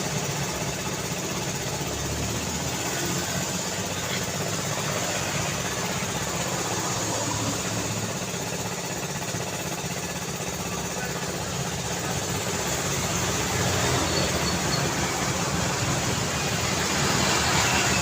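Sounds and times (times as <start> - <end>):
road noise: 0.0 - 18.0
vehicle engines idling: 0.0 - 18.0.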